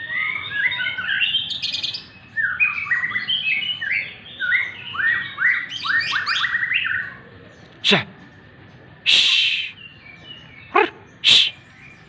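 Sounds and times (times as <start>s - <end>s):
bird singing whistled notes: 0.0s - 7.2s, 9.1s - 12.0s.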